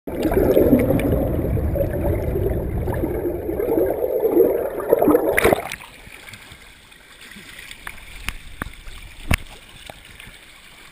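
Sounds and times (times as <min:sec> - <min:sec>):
splash: 0:00.1 - 0:10.9
underwater river rushing: 0:00.1 - 0:10.9.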